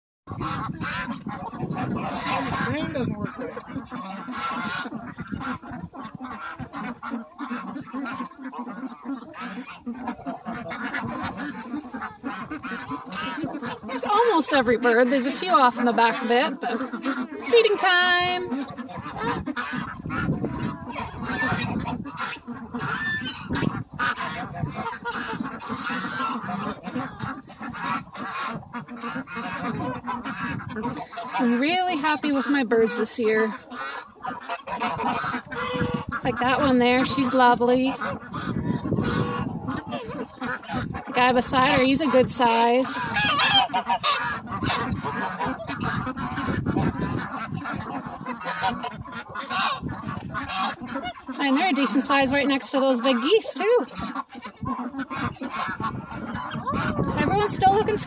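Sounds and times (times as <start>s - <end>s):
ducks quacking: 0.3s - 58.0s
geese honking: 0.3s - 58.0s.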